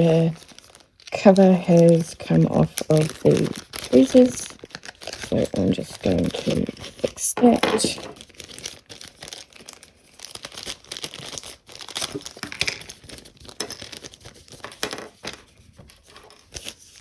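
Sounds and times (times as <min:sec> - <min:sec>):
packet crinkling and rustling: 0:00.0 - 0:17.0.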